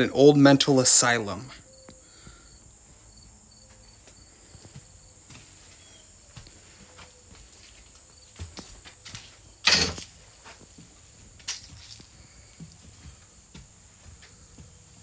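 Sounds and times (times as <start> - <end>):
insects droning: 0.0 - 15.0
faint footsteps and taps: 1.8 - 9.4, 10.4 - 15.0.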